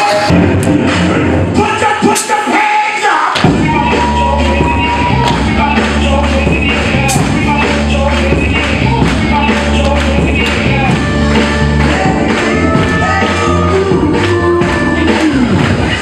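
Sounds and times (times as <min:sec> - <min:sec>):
heavy bass beat: 0:00.0 - 0:02.6, 0:03.4 - 0:16.0
loud dance music: 0:00.0 - 0:16.0.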